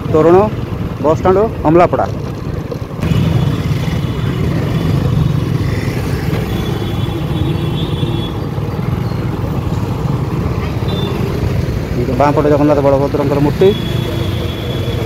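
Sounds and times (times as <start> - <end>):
motorbike riding rumble: 0.0 - 15.0.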